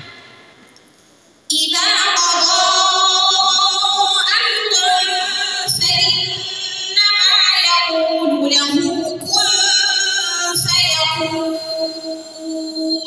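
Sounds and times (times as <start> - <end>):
woman reciting melodically: 1.5 - 13.0.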